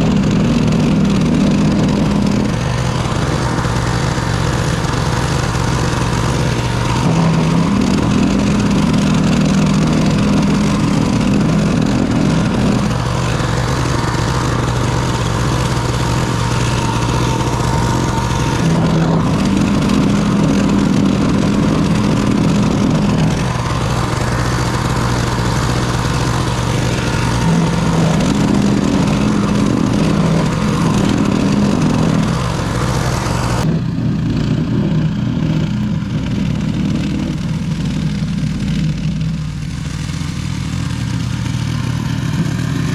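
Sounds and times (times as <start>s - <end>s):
snowblower engine running: 0.0s - 42.9s.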